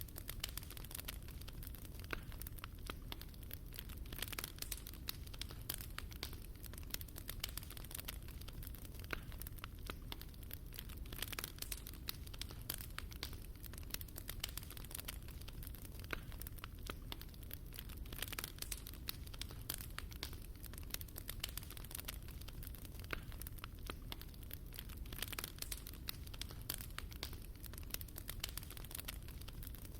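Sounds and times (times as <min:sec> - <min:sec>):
fireplace fire crackling: 0:00.0 - 0:29.9.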